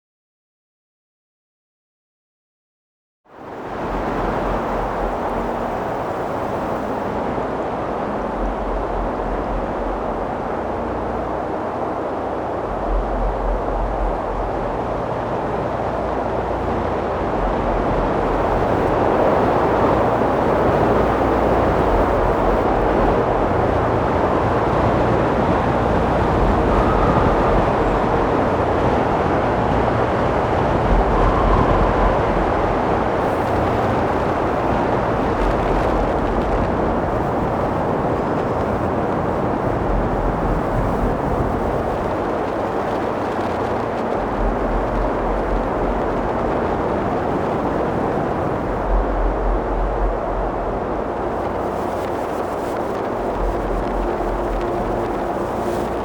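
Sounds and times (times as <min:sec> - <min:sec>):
strong gusty wind: 0:03.3 - 0:56.0
wind buffeting microphone: 0:03.4 - 0:56.0.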